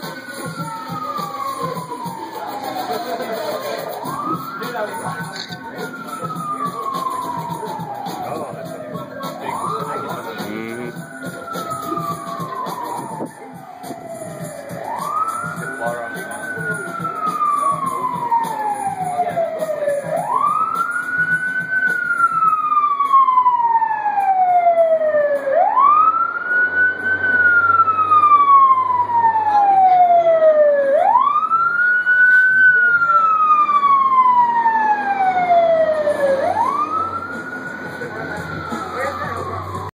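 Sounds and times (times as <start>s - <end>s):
fire engine siren wailing: 0.0s - 39.9s.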